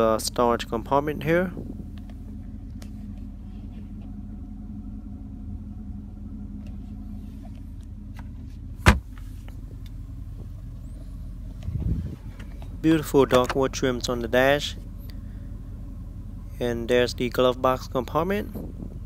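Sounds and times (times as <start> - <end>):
car engine idling hum: 0.0 - 19.0.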